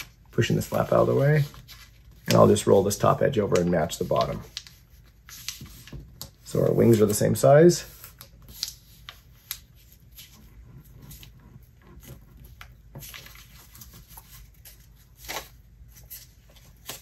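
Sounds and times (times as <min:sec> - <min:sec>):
paper rustling and creasing: 0:00.0 - 0:17.0.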